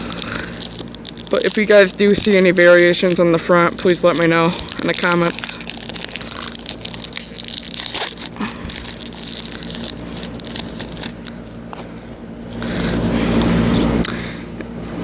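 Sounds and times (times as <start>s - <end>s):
paper and plastic crinkling: 0.0s - 13.6s.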